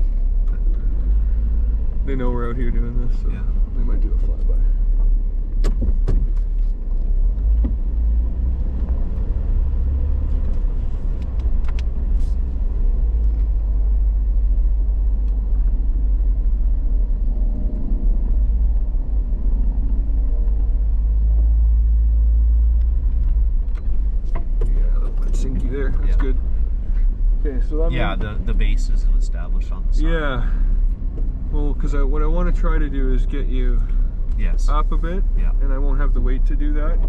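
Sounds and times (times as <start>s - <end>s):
truck engine rumbling under load: 0.0s - 37.0s.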